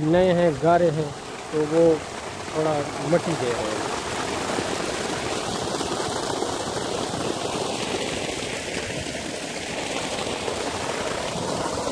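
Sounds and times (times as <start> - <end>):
water gushing and splashing onto sand: 0.0 - 11.9.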